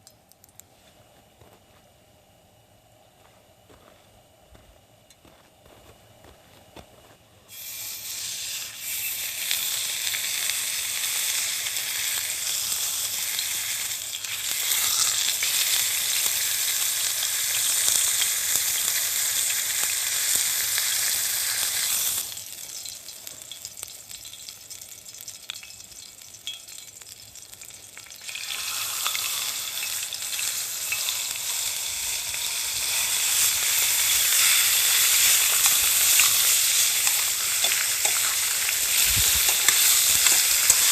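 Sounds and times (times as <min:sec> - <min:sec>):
steak sizzling in a pan: 0:07.5 - 0:40.9.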